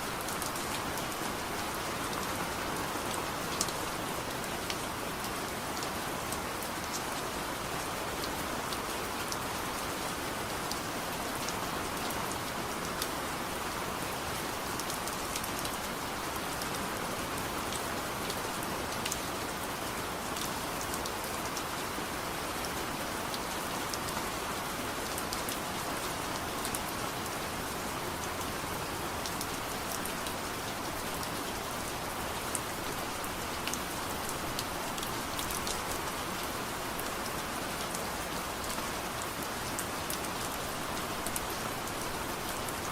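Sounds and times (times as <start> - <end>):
soft rain falling: 0.0 - 42.9.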